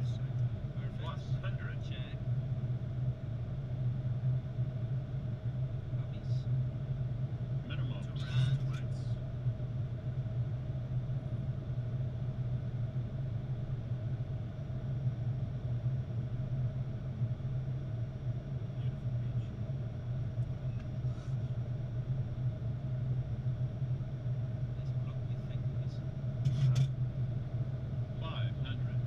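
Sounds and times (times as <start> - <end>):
faint steady hum: 0.0 - 29.0
low drone of airflow: 0.0 - 29.0.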